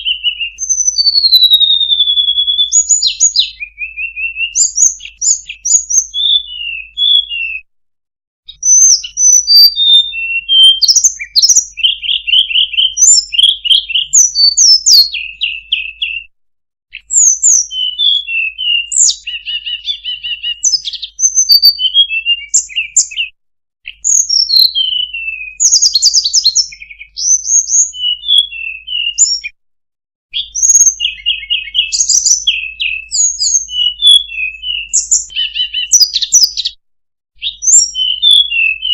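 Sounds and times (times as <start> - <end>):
recorded songbird call: 0.0 - 7.7, 8.5 - 29.6, 30.3 - 36.8, 37.4 - 38.9.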